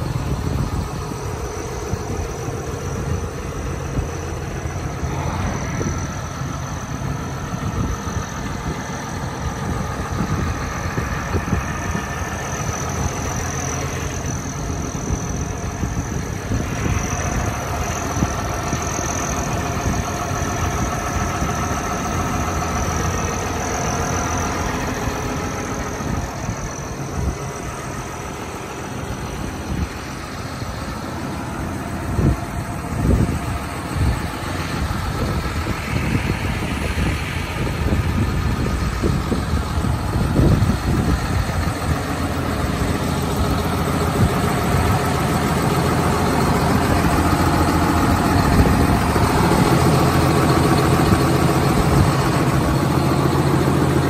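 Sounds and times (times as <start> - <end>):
tractor diesel engine idling: 0.0 - 54.0
wavering high whine: 0.0 - 54.0.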